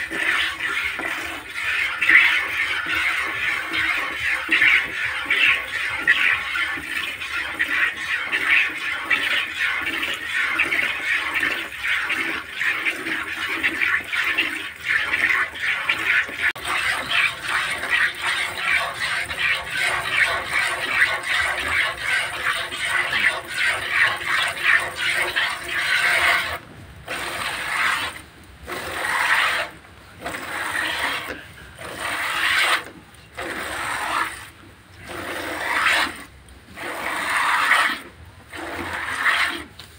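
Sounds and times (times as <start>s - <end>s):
milk squirting into bucket: 0.0s - 39.9s.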